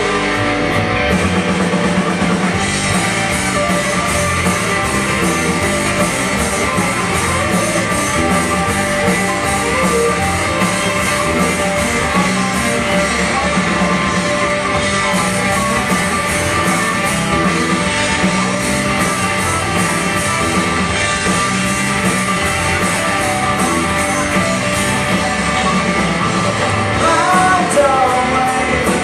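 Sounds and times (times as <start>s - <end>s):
bass guitar: 0.0s - 29.0s
electric guitars: 0.0s - 29.0s
steady drum beat: 0.0s - 29.0s.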